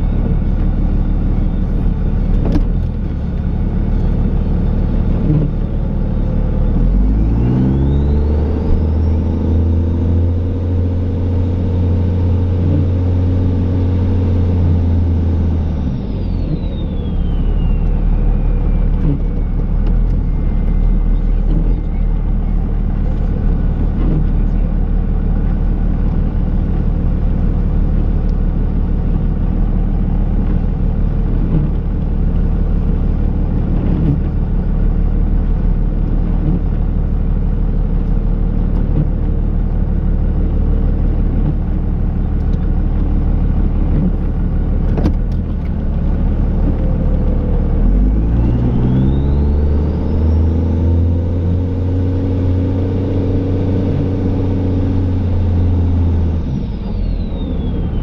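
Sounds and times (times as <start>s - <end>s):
diesel engine running and revving: 0.0s - 58.0s.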